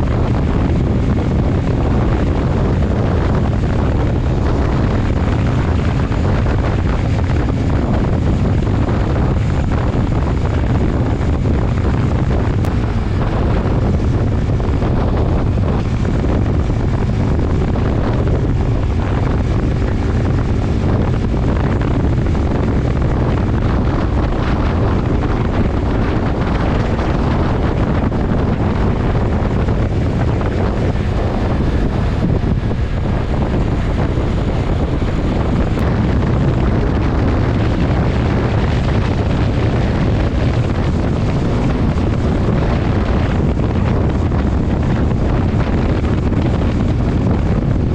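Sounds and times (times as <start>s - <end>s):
motorcycle engine running: 0.0s - 47.9s
wind buffeting microphone: 0.0s - 47.9s.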